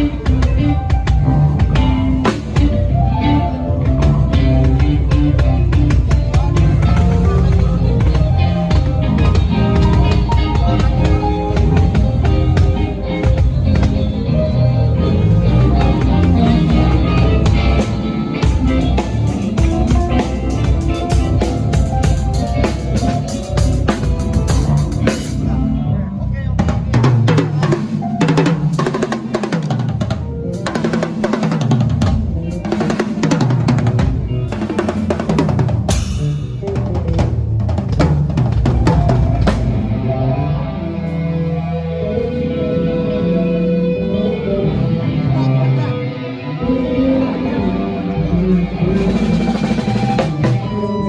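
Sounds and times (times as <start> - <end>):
drum kit played hard: 0.0 - 25.5, 26.5 - 40.2, 48.0 - 51.0
live rock band playing: 0.0 - 51.0.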